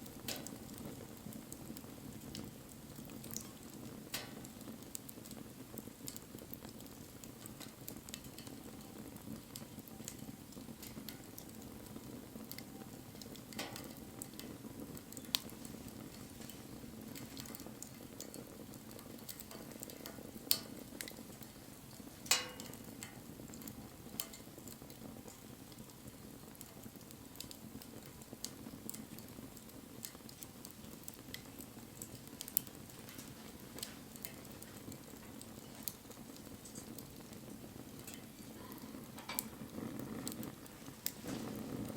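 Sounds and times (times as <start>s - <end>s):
bonfire flames crackling: 0.0s - 41.9s
sharp pops from fire: 0.0s - 41.9s.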